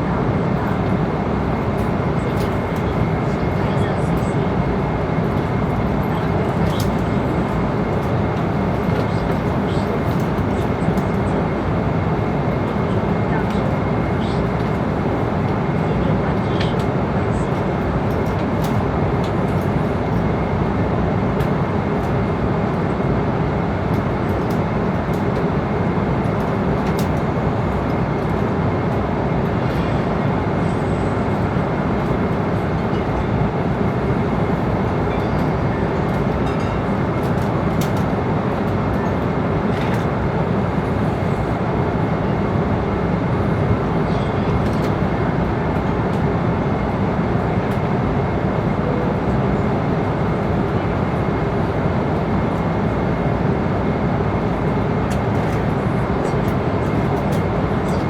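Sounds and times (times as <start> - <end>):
engine and airflow rush: 0.0 - 58.0.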